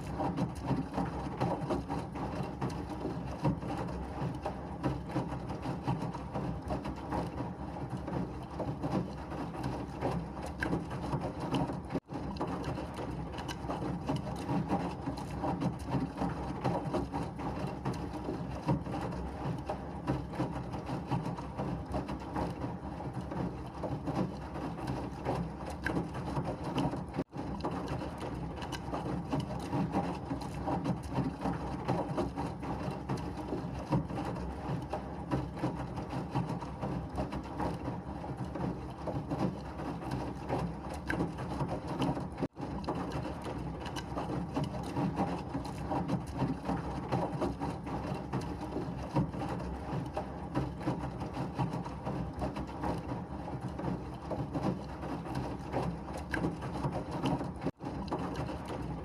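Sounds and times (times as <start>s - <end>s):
washing machine churning: 0.0s - 59.0s.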